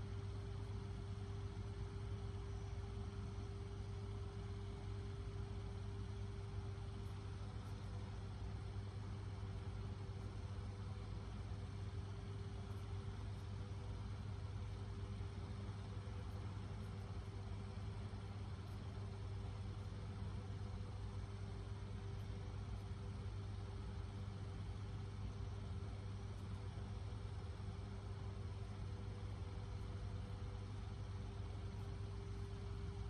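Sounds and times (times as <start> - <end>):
faint steady tone: 0.0 - 33.0
low background hum: 0.0 - 33.0.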